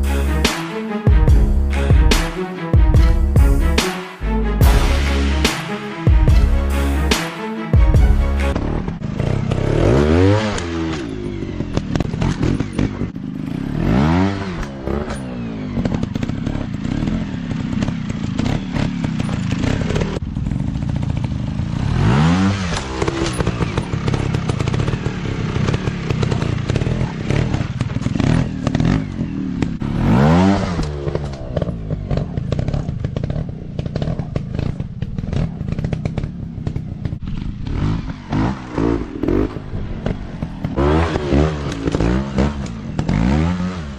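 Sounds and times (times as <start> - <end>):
dirt bike engines revving: 8.4 - 43.9.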